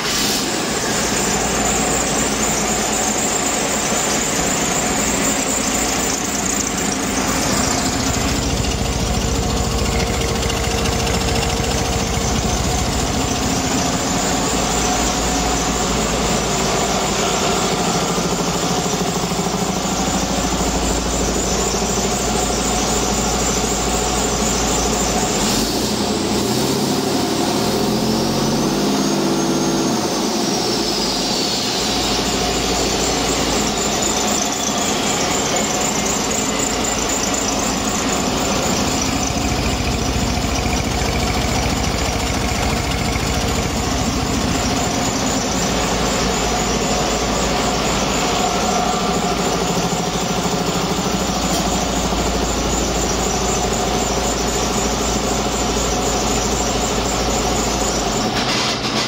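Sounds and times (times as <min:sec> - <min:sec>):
high turbo whistle: 0:00.0 - 0:59.0
truck diesel engine idling: 0:00.0 - 0:59.0.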